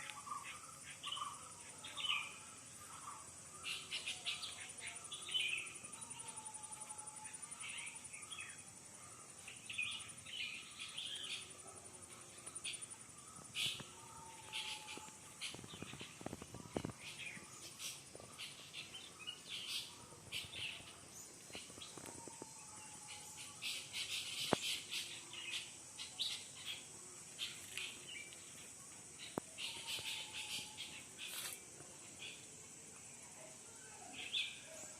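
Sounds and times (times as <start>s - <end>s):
high insect trill: 0.0s - 34.9s
songbirds chirping and twittering: 0.0s - 34.9s.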